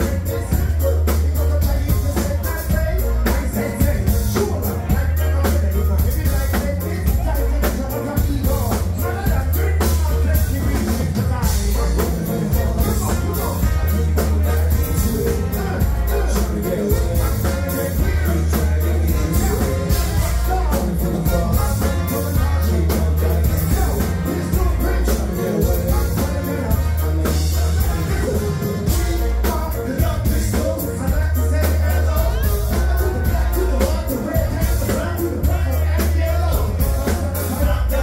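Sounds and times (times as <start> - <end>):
live band playing: 0.0 - 38.0
person singing: 0.0 - 38.0
steady drum beat: 0.0 - 38.0.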